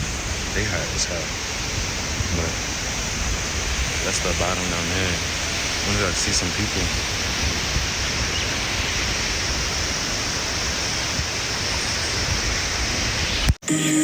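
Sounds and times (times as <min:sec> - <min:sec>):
river cascade rushing water: 0:00.0 - 0:13.5.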